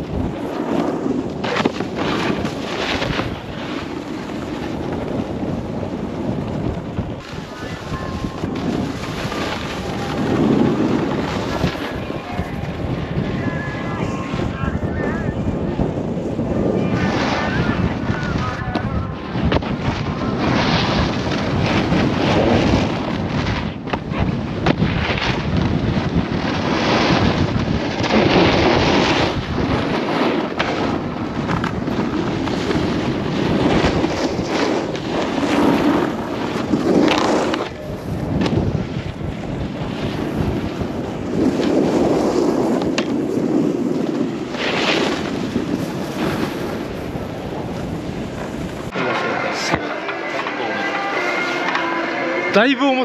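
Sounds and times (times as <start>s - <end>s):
wind buffeting microphone: 0.0s - 50.0s
snowboard scraping on snow: 0.0s - 53.0s.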